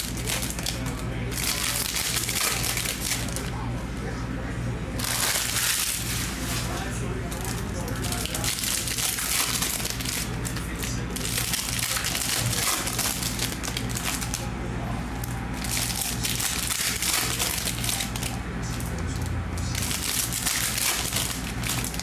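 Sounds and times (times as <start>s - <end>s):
foil wrappers crinkling: 0.0s - 3.6s, 5.0s - 14.5s, 15.2s - 22.0s.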